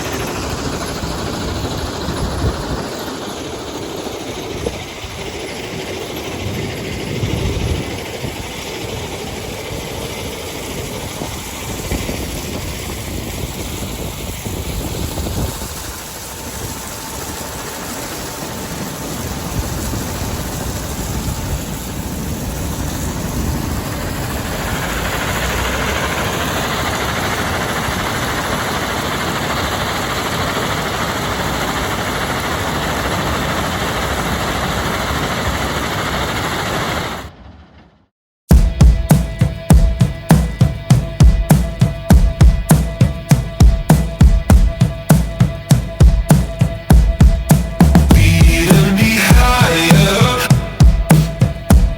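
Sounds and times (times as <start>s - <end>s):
heavy diesel machinery running: 0.0s - 37.9s, 38.5s - 51.9s.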